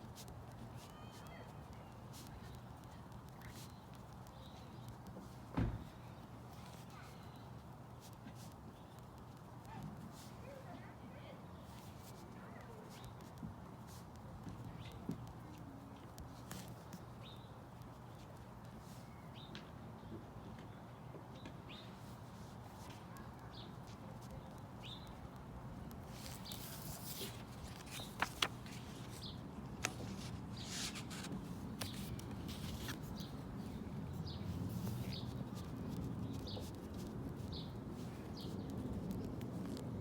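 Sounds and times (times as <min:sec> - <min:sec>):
small birds chirping: 0:00.2 - 0:39.8.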